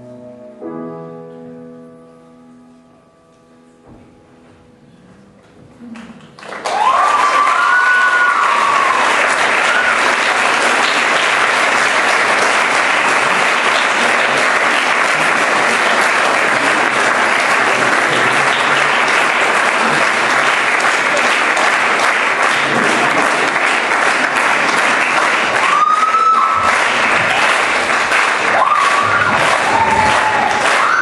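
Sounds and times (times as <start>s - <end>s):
audience applauding: 6.0s - 31.0s.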